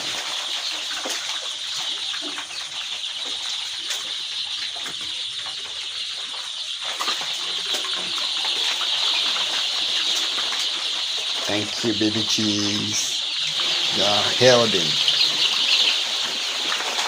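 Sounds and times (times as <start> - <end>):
chicks peeping in chorus: 0.0 - 17.0.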